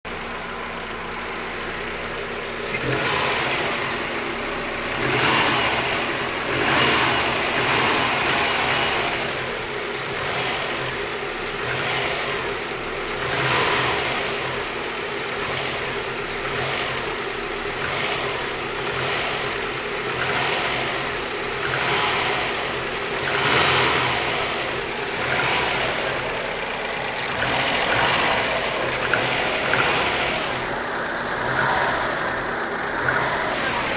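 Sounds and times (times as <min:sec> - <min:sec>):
car engine idling and revving: 0:00.0 - 0:33.9
engine knock: 0:00.0 - 0:33.9.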